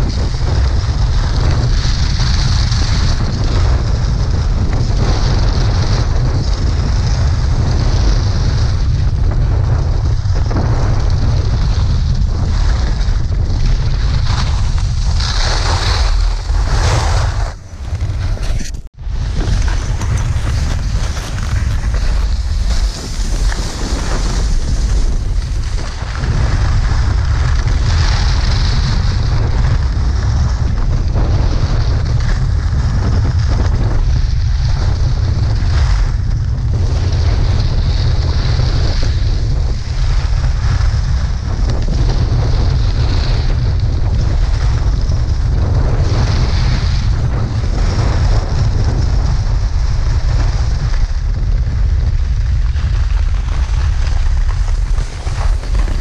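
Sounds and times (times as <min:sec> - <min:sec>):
skis scraping over snow: 0:00.0 - 0:56.0
wind buffeting microphone: 0:00.0 - 0:56.0.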